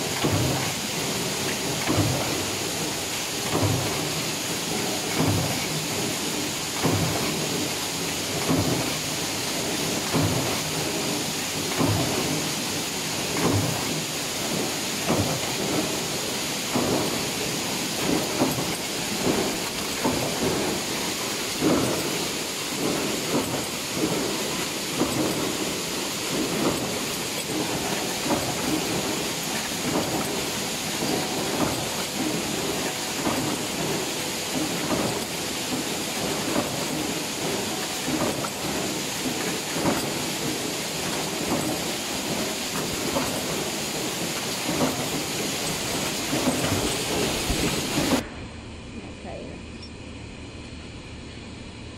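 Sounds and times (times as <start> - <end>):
stamping press machine noise: 0.0 - 48.9.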